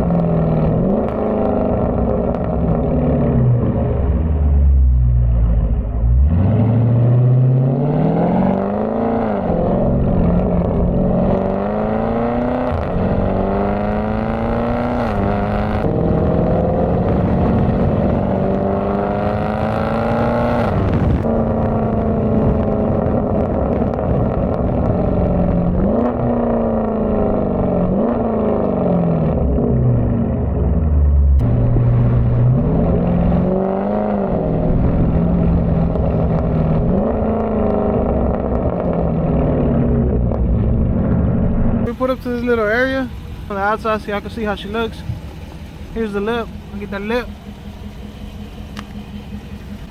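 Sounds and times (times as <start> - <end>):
car exhaust accelerating: 0.0 - 49.9.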